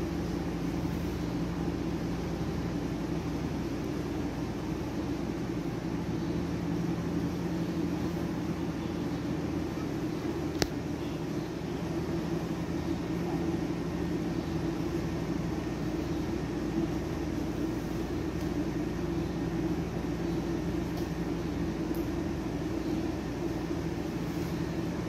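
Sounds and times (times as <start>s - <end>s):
low machine hum with hiss: 0.0s - 25.0s.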